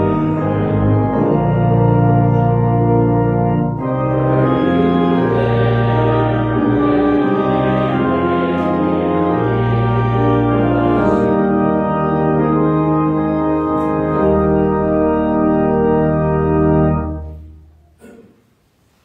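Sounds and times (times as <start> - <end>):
organ playing slow chords: 0.0 - 18.2.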